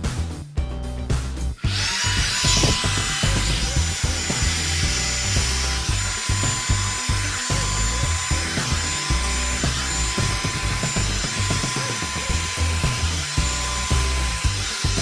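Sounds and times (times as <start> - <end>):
background music with bass: 0.0 - 15.0
hair dryer brush blowing: 1.6 - 15.0.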